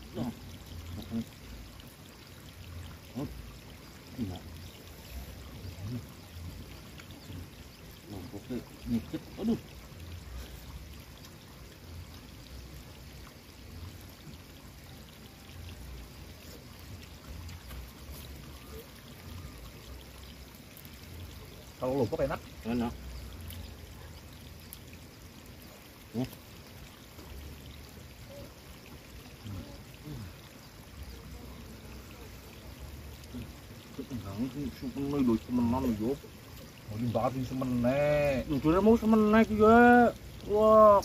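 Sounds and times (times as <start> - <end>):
running water rushing: 0.0 - 41.0.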